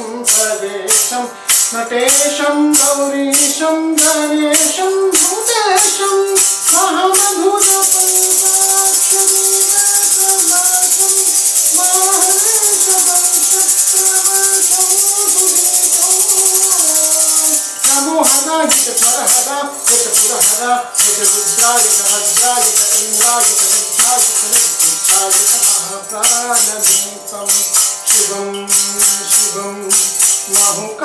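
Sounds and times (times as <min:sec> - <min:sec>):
sustained melody: 0:00.0 - 0:31.0
wooden clappers with jingles: 0:00.3 - 0:30.9.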